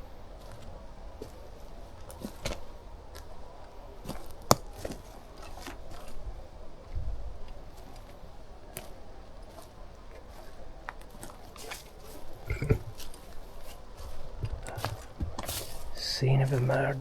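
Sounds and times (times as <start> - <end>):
footsteps crunching on twigs: 0.0 - 17.0.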